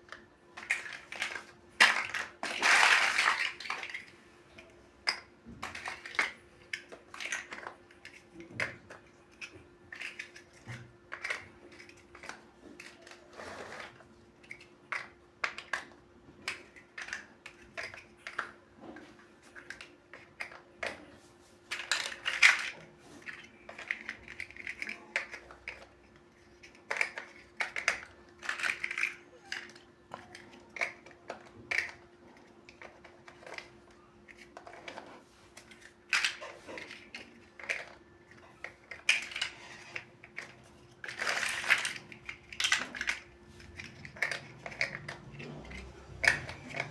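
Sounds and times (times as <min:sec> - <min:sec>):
plastic bricks clicking: 0:00.1 - 0:18.6, 0:21.7 - 0:46.9
plastic bricks clattering: 0:00.1 - 0:21.1, 0:21.7 - 0:46.9.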